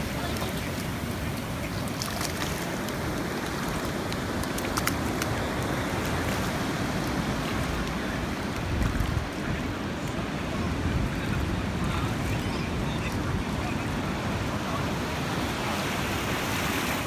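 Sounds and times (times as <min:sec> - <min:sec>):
ocean surf washing on sand: 0:00.0 - 0:17.0
wind buffeting microphone: 0:00.0 - 0:17.0.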